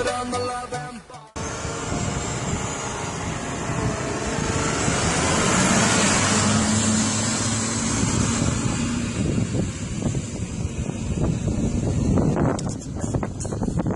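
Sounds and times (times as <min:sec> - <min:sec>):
tractor engine droning: 0:00.0 - 0:13.9.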